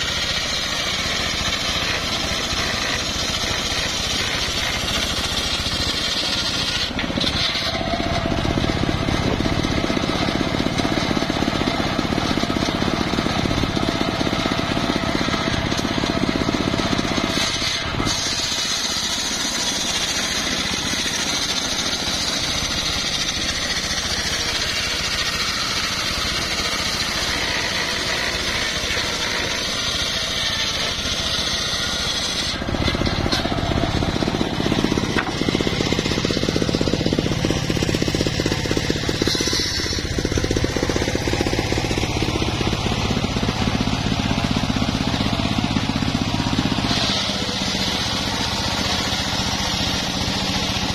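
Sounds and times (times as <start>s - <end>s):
circular sawmill cutting log: 0.0s - 50.9s.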